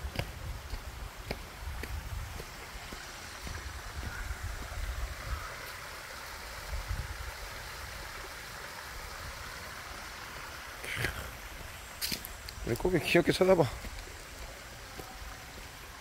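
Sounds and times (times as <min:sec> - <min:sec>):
stream trickling over rocks: 0:00.0 - 0:16.0.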